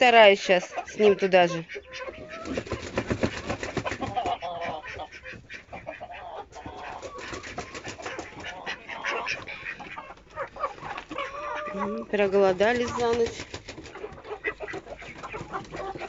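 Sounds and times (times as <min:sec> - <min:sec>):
ducks quacking: 0:00.0 - 0:16.0
hens clucking: 0:00.0 - 0:16.0.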